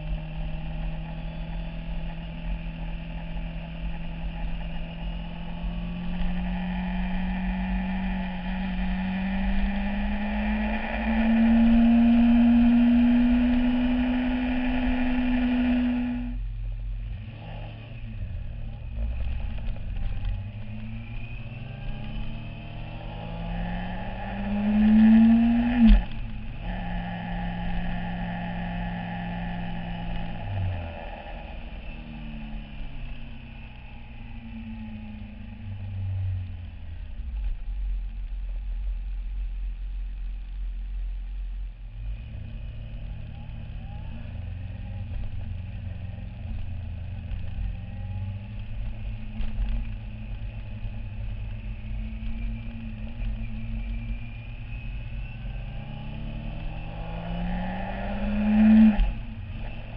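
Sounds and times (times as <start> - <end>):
motorcycle engine revving: 0.0 - 16.4, 17.1 - 37.6, 41.9 - 59.9.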